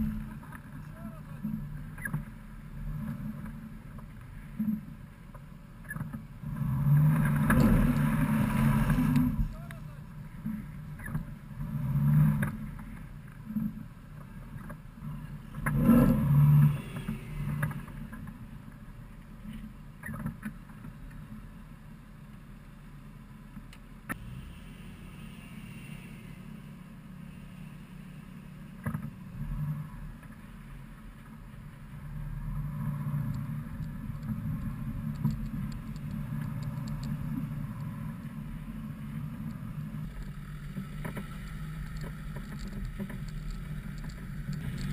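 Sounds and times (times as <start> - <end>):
engine hum: 0.0 - 44.9.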